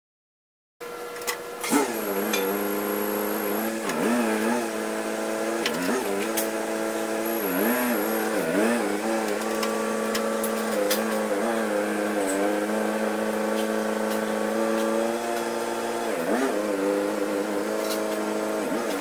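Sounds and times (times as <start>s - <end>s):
tractor engine running: 0.9s - 19.0s.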